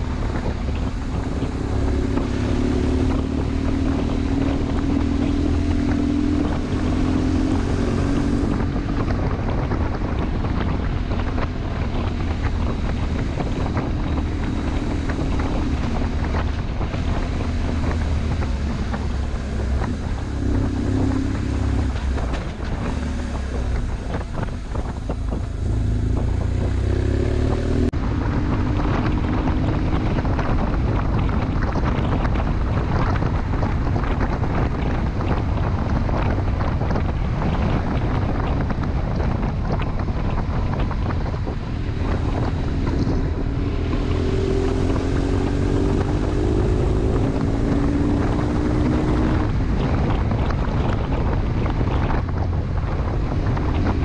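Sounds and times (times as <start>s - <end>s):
motorcycle engine revving: 0.0s - 54.0s
wind noise on microphone: 0.0s - 54.0s.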